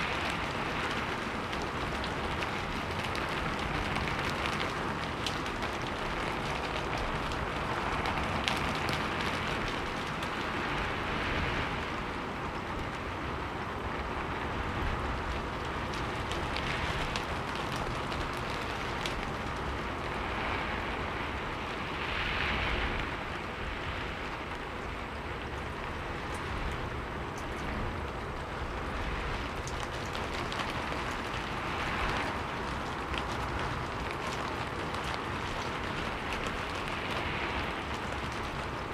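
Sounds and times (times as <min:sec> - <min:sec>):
raindrop ticks: 0:00.0 - 0:22.2, 0:22.8 - 0:38.9
steady rain hiss: 0:00.0 - 0:38.9.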